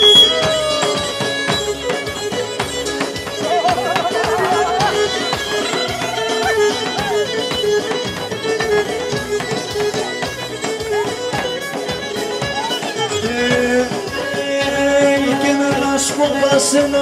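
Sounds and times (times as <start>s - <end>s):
bowed lyra folk dance tune: 0.0s - 17.0s.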